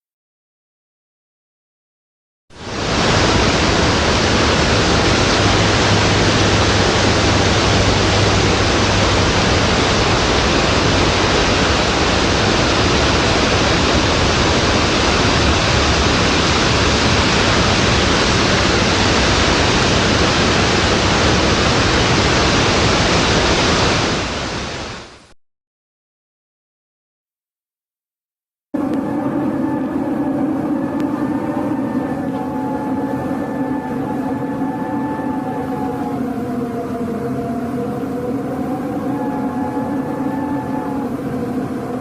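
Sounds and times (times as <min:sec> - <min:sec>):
steady rushing wind: 0:02.5 - 0:25.2, 0:28.8 - 0:42.0.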